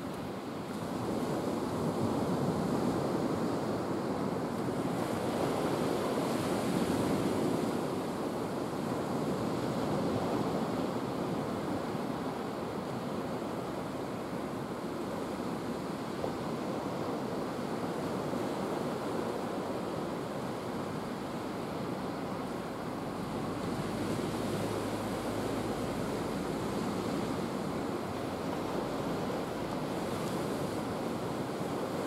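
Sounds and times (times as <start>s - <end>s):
wind: 0.0s - 32.0s.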